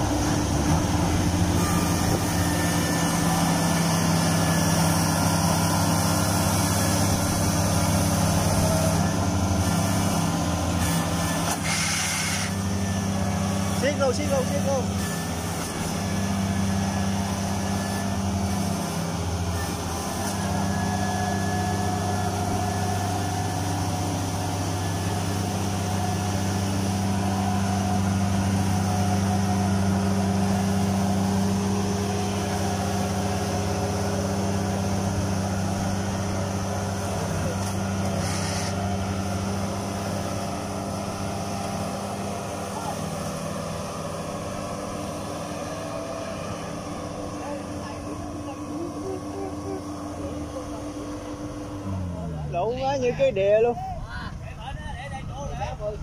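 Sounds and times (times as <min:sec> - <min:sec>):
diesel engines running under load: 0:00.0 - 0:56.0.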